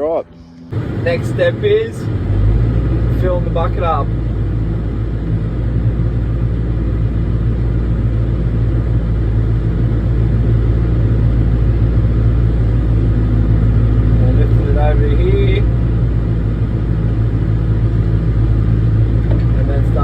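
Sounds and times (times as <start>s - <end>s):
excavator diesel engine running: 0.7s - 20.0s.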